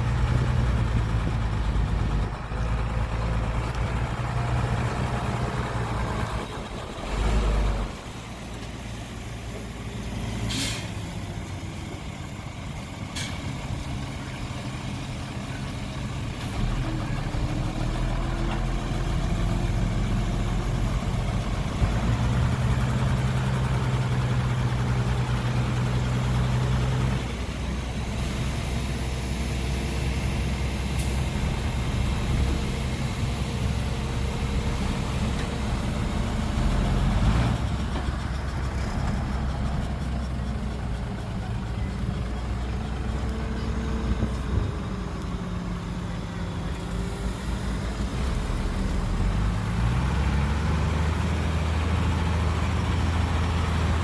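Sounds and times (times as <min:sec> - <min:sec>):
heavy diesel engines: 0:00.0 - 0:54.0.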